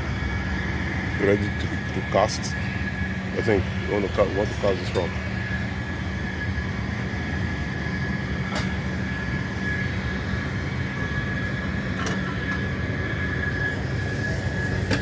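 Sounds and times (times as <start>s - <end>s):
diesel engine drone: 0.0s - 15.0s
high whine: 0.0s - 15.0s.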